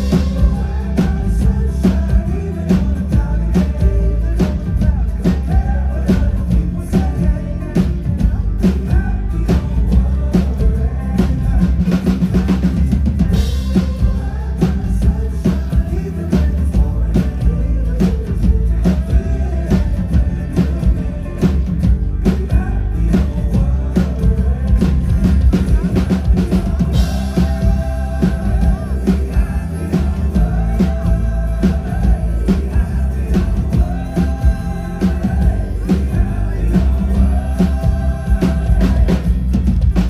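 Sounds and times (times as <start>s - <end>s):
drum-kit beat: 0.0s - 40.0s
heavy bass: 0.0s - 40.0s
live pop-rock band playing: 0.0s - 40.0s
person singing: 0.0s - 40.0s.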